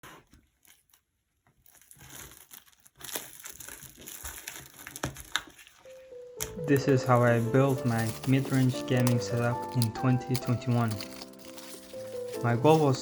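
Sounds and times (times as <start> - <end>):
crinkling and crunching handling noise: 0.0 - 13.0.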